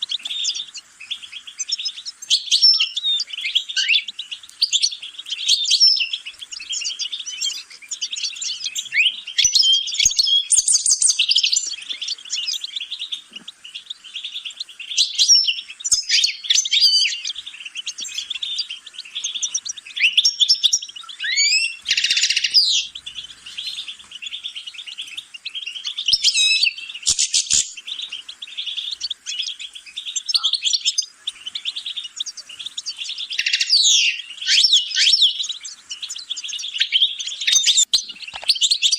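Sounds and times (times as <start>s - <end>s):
finch singing twittering trills: 0.0s - 38.9s.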